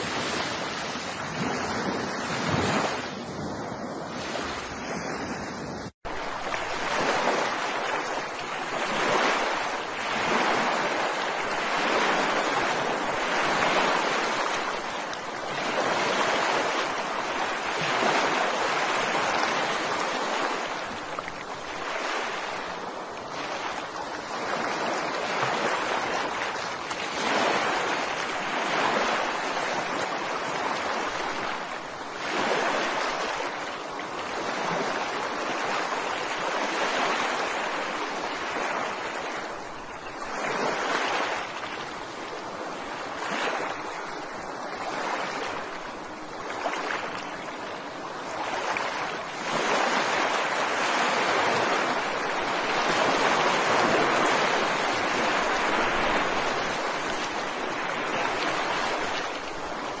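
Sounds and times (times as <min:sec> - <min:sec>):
ocean waves washing ashore: 0:00.0 - 1:00.0.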